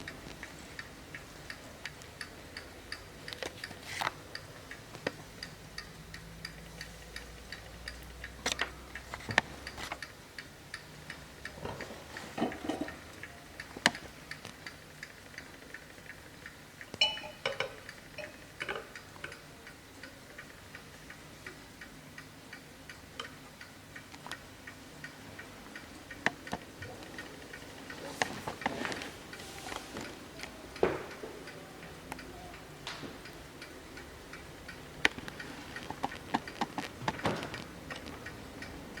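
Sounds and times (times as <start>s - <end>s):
mantel clock ticking: 0.0s - 39.0s.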